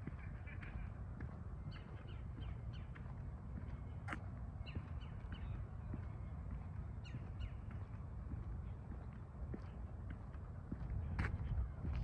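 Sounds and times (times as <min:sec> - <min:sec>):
footsteps on pavement: 0:00.0 - 0:12.0.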